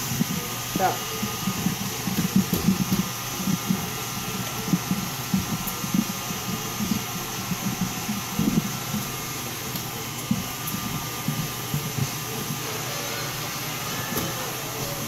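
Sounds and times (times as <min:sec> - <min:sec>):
mixer whirring hum: 0:00.0 - 0:15.0.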